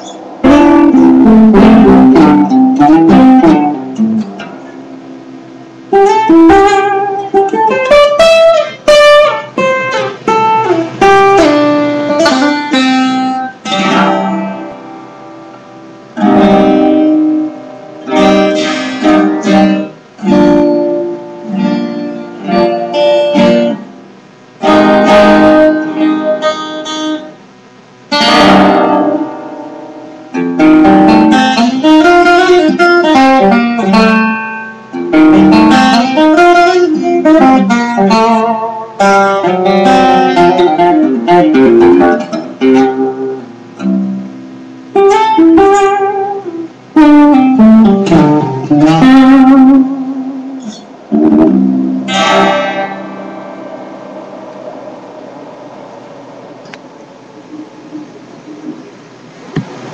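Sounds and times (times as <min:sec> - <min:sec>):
acoustic guitar: 0:00.0 - 0:59.9.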